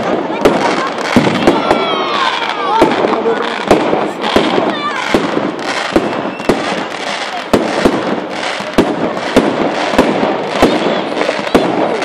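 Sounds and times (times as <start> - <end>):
firework crackling: 0.0 - 12.0
firework shells bursting: 0.0 - 12.0.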